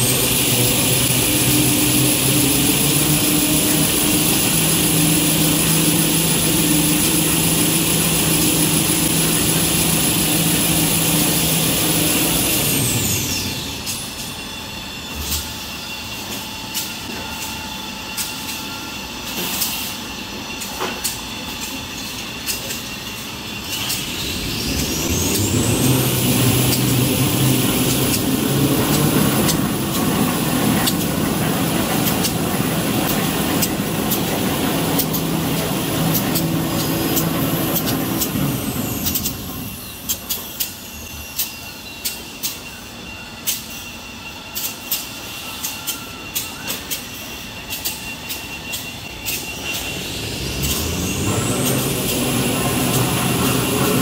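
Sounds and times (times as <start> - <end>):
high machine whine: 0.0 - 54.0
rollers and drives humming: 0.0 - 54.0.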